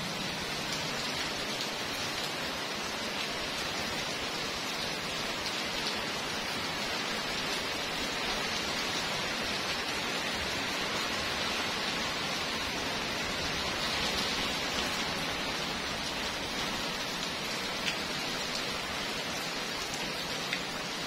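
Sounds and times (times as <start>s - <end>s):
heavy rain on pavement: 0.0s - 21.0s.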